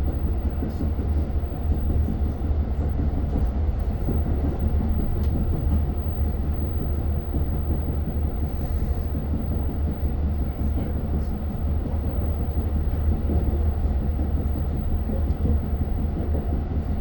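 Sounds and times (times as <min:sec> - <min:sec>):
train rumble inside passenger car: 0:00.0 - 0:17.0.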